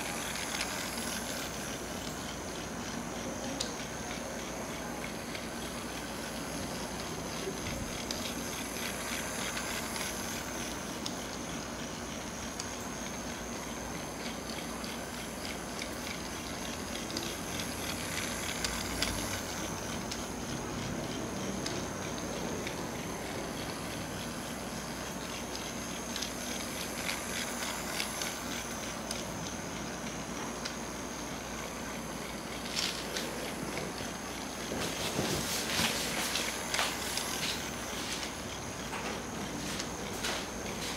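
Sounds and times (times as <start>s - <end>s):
toy train motor whine: 0.0s - 40.9s.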